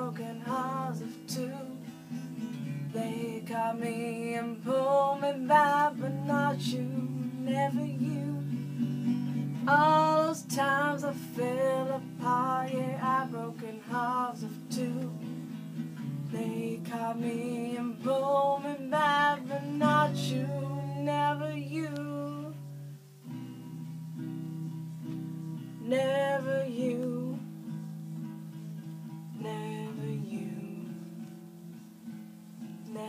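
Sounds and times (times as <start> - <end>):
woman singing: 0.0 - 22.7, 25.8 - 27.8, 29.3 - 31.3
strummed acoustic guitar: 0.0 - 33.0.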